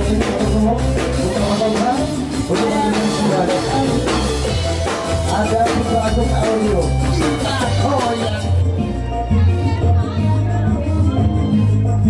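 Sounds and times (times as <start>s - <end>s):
drum kit beat: 0.0s - 12.0s
live band playing: 0.0s - 12.0s.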